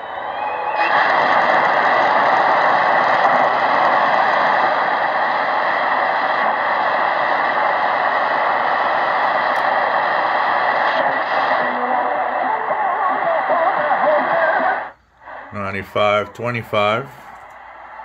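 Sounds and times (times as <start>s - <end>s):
radio static hiss: 0.4s - 18.0s.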